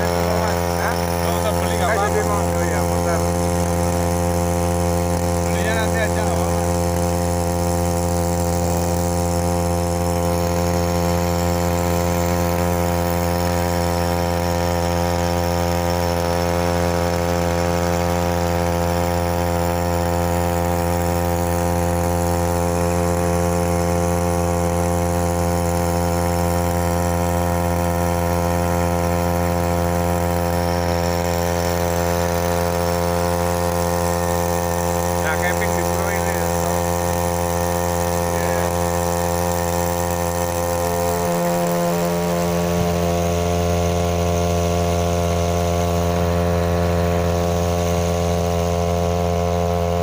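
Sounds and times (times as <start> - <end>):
outboard motor running: 0.0 - 50.0.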